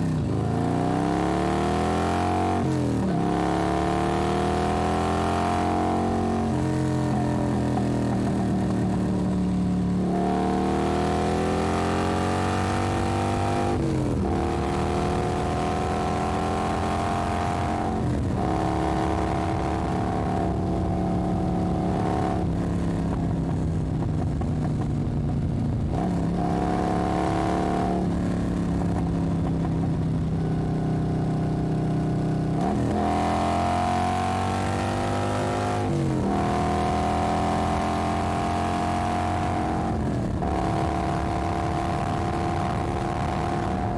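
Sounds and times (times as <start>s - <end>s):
motorcycle engine shifting gears: 0.0s - 43.9s.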